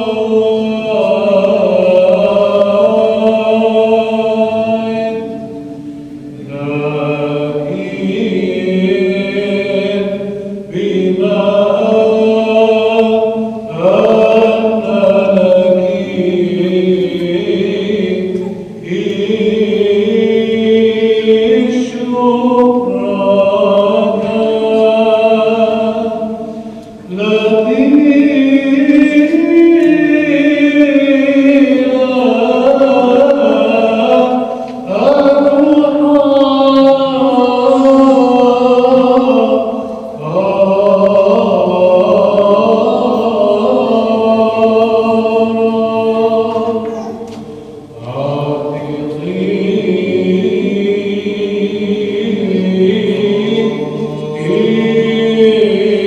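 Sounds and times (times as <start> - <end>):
choir chanting long notes: 0.0 - 56.0.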